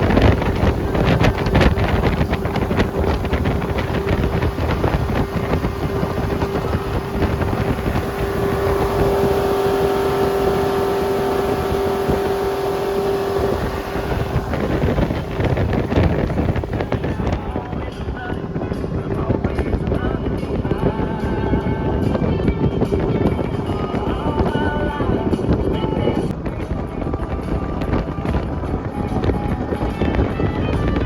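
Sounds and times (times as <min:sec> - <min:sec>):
boat motor running: 0:00.0 - 0:31.0
wind buffeting microphone: 0:00.0 - 0:31.0.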